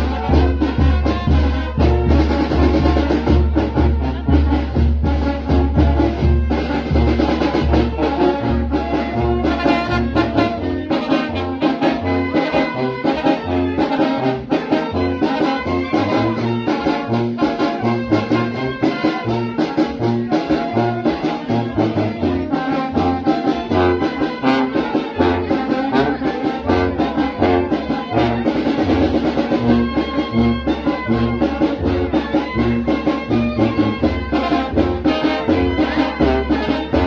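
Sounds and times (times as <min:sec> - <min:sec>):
drums: 0:00.0 - 0:37.0
trumpets and trombones: 0:00.0 - 0:37.0.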